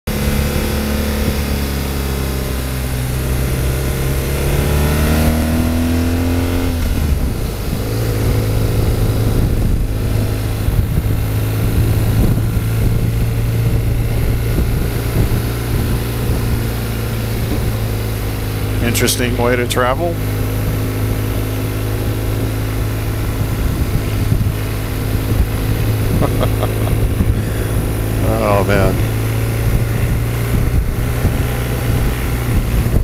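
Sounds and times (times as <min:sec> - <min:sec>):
motorcycle engine running: 0:00.1 - 0:33.0
wind noise: 0:00.1 - 0:33.0.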